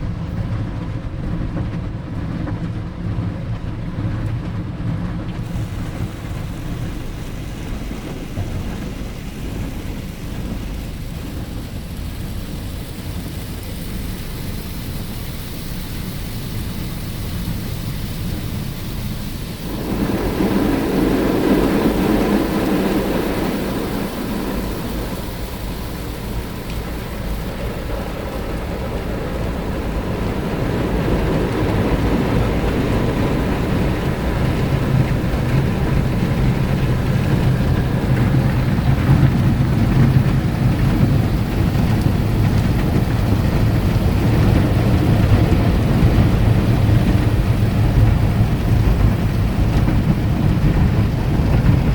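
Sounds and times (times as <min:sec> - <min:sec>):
car wash machinery rumble: 0:00.0 - 0:51.9
water spraying on car body: 0:04.5 - 0:51.9
loud rush of water: 0:05.4 - 0:51.9.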